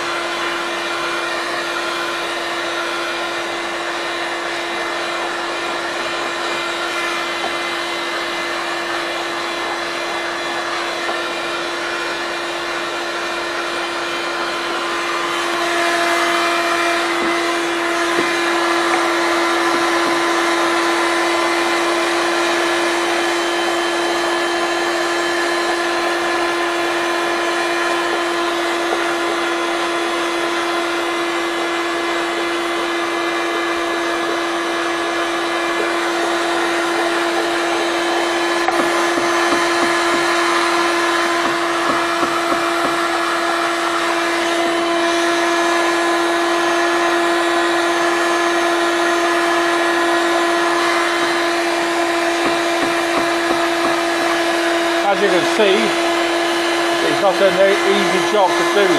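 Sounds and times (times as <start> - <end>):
heat gun fan humming: 0.0 - 58.9.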